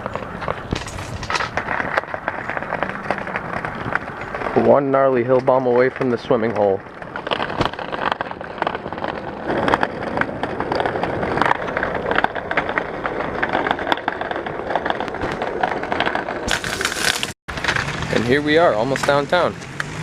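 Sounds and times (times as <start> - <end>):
small hard wheels rolling on pavement: 0.0 - 20.0.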